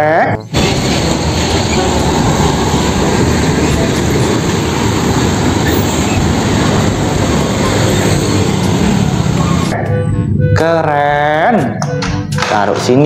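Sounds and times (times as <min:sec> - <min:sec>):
road traffic noise: 0:00.4 - 0:13.0
vehicles passing close by: 0:00.5 - 0:13.0.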